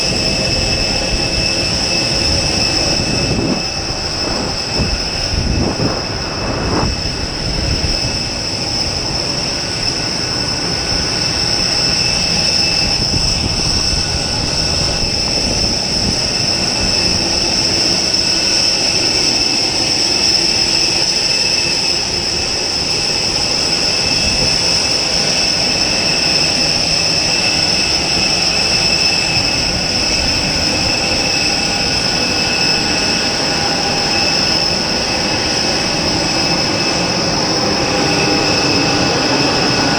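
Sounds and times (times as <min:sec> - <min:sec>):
jet turbine whine: 0:00.0 - 0:39.9.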